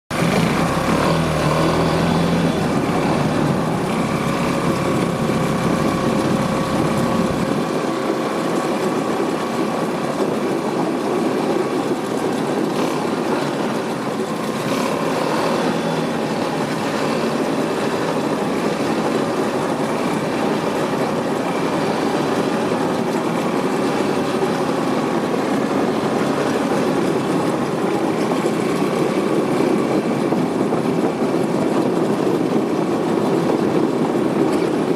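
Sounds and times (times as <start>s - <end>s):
vehicle engine and road noise: 0.1s - 34.9s.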